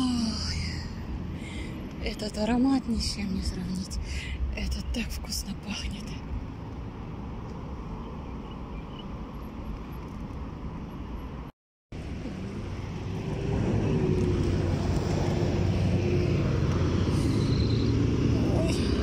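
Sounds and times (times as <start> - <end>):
cars passing: 0.0 - 19.0
vehicle engine drone: 0.0 - 19.0.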